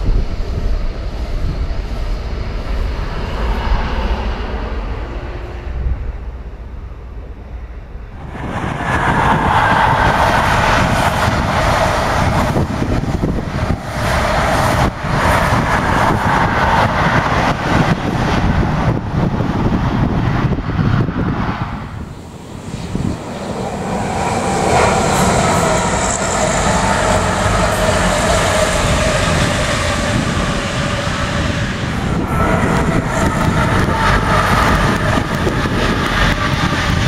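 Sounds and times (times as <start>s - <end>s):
diesel locomotive whine: 0.0s - 37.0s
train wheels on rails: 0.0s - 37.0s
wind buffeting microphone: 0.0s - 37.0s.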